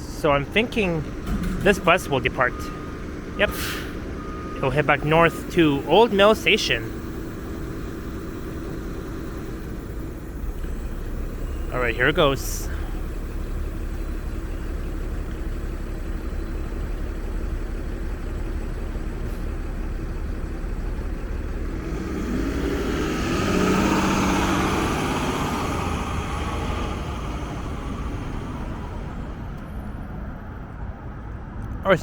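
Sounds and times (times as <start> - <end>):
bus driving past: 0.0 - 32.0
low traffic rumble: 0.0 - 32.0.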